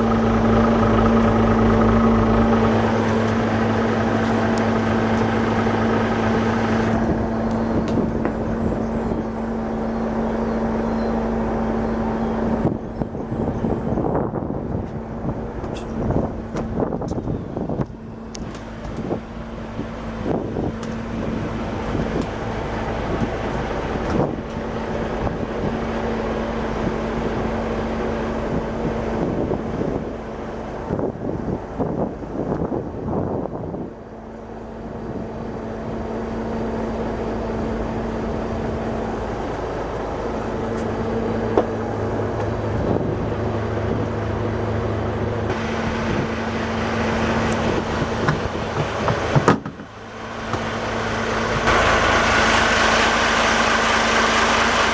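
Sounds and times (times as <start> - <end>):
wind noise on microphone: 0.0 - 36.0, 40.9 - 44.8, 45.4 - 51.7
boat engine humming: 0.0 - 54.9.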